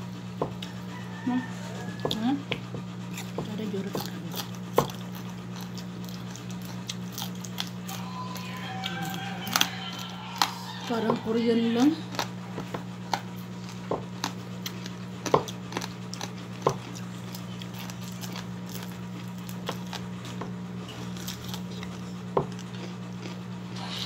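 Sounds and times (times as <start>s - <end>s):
steady low hum: 0.0s - 24.0s
person chewing food: 0.4s - 24.0s.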